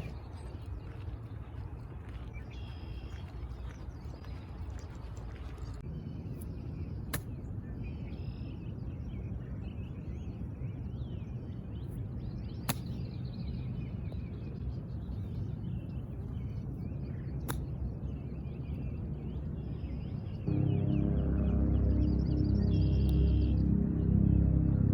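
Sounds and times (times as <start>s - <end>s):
birds chirping: 0.0s - 24.9s
low outdoor rumble: 0.0s - 24.9s.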